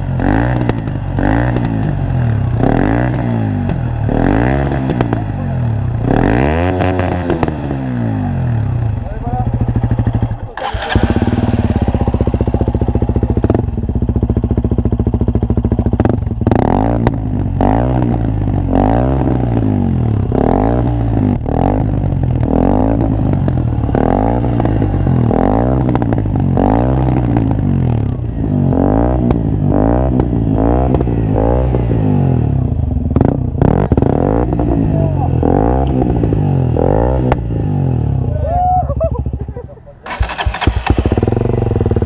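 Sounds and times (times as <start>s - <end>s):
motorcycle engine idling: 0.0s - 6.4s, 7.0s - 18.7s, 19.6s - 42.0s
motorcycle engine revving: 0.0s - 42.0s.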